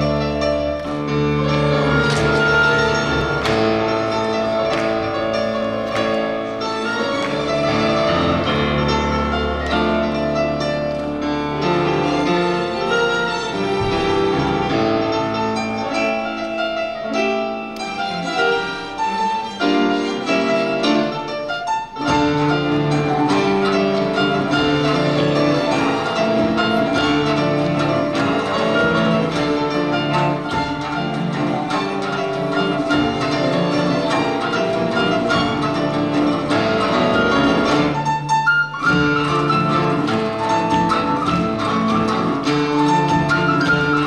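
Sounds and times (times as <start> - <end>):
grand piano: 0.0 - 44.0
string orchestra: 0.0 - 44.0.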